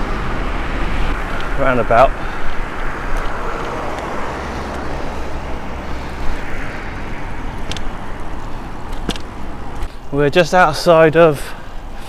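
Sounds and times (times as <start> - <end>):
low rumble: 0.0 - 9.9
road traffic: 0.0 - 12.0.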